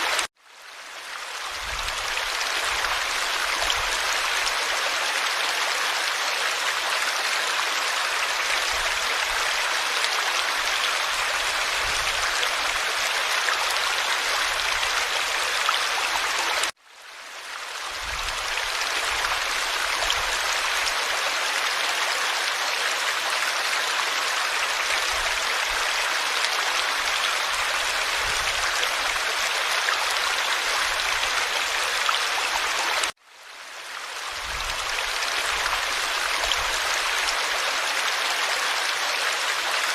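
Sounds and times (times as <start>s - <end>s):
stream babbling over stones: 0.0s - 16.8s, 17.4s - 39.9s.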